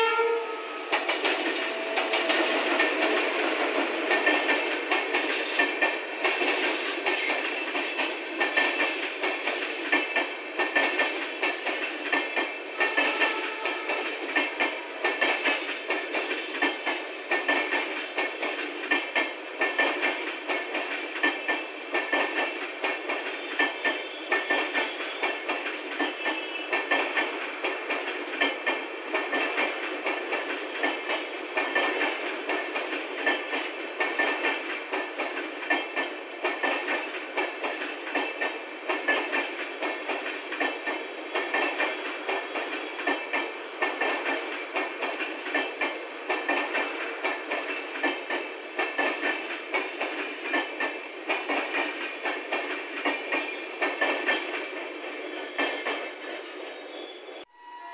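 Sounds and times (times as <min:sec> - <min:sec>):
train wheels clattering: 0:00.8 - 0:57.4.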